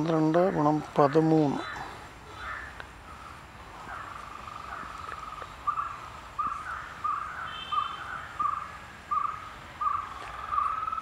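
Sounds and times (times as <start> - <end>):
short bird calls: 1.5 - 11.0.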